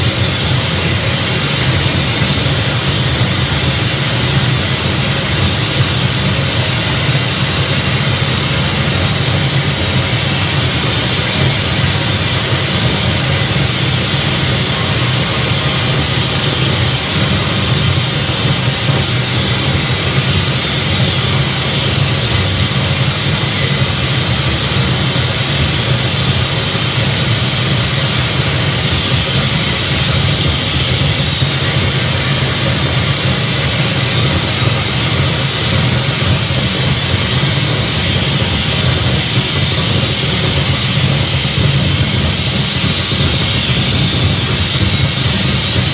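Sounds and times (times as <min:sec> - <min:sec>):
rumbling noise drone with hiss: 0:00.0 - 0:45.9.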